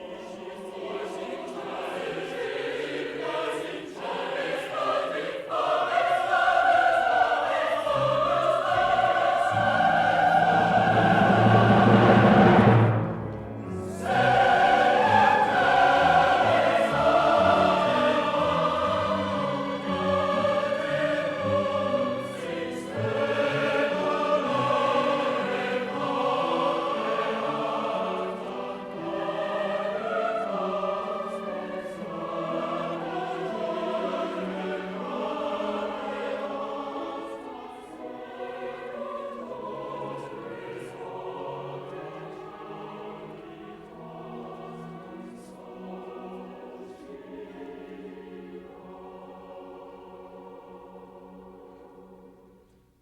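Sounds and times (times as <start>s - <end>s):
choir singing with orchestra: 0.0s - 52.8s.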